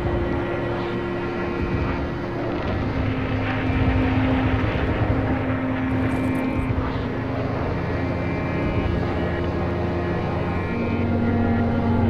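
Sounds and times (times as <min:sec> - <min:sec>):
engine-like rumbling drone: 0:00.0 - 0:12.0.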